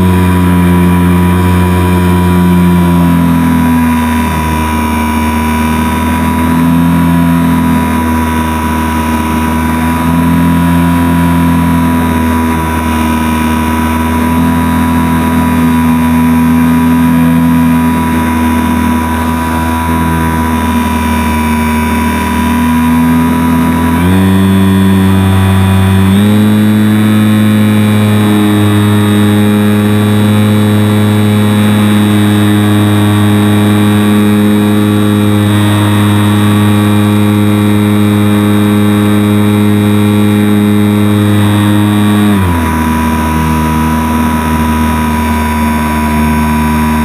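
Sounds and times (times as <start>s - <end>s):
model plane motor humming: 0.0s - 47.0s
thin high whine: 0.0s - 47.0s.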